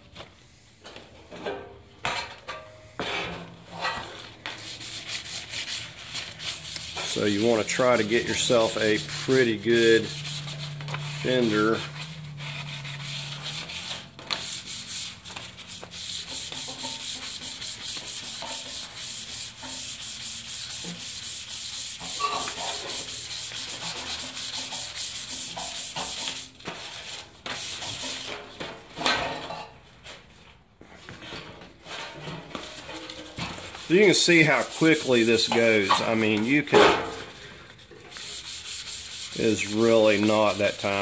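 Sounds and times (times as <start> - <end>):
sandpaper scuffing strokes: 4.0 - 28.5, 32.5 - 41.0.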